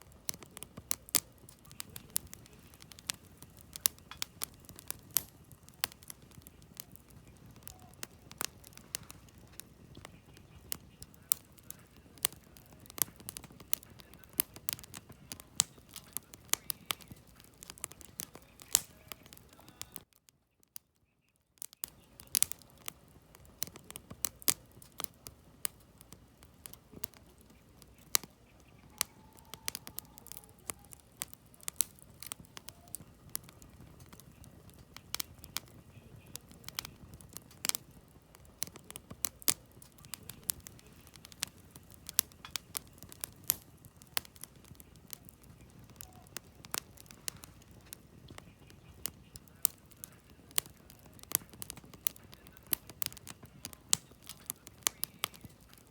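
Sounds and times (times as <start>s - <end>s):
campfire crackling: 0.0s - 55.9s
rustle of flames: 0.0s - 55.9s.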